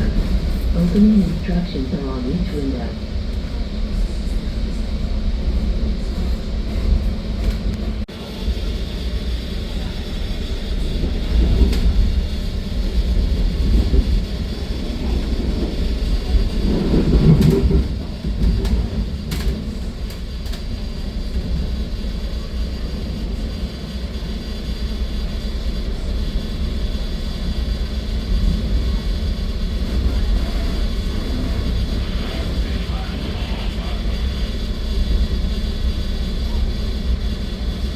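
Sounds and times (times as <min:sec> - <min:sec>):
train rumbling inside passenger car: 0:00.0 - 0:37.9.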